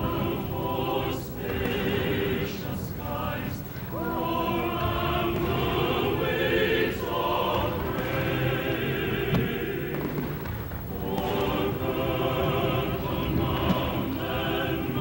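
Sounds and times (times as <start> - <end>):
choral singing music: 0.0 - 15.0.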